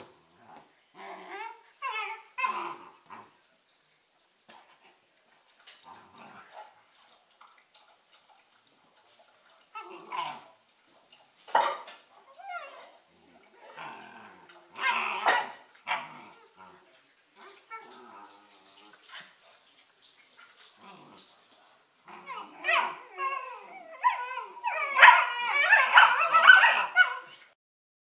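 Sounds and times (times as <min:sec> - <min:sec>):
puppies play-fighting and vocalizing: 0:00.0 - 0:27.6.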